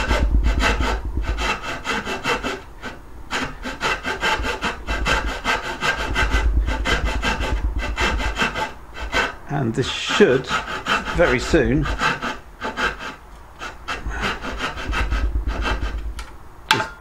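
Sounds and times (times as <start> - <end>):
hand saw rasping through wood: 0.0 - 16.2.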